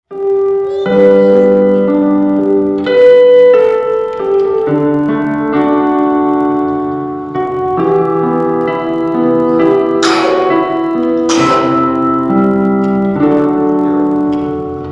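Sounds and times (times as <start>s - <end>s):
keyboard playing slow chords: 0.1s - 14.9s.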